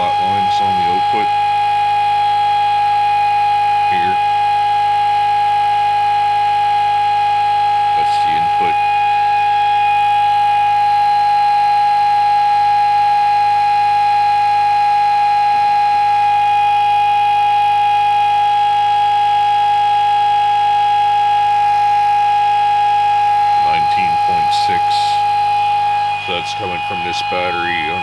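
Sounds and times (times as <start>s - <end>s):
motor high-pitched whine: 0.0s - 28.0s.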